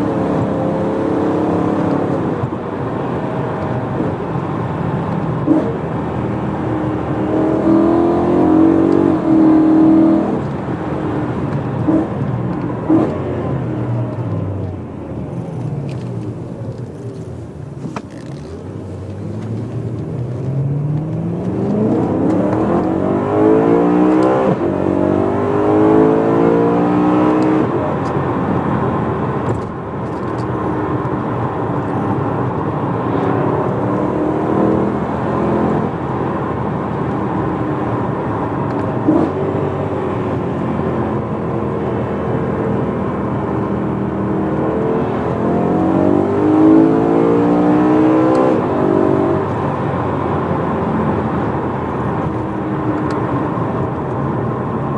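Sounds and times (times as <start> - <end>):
car engine revving in cabin: 0.0 - 54.9.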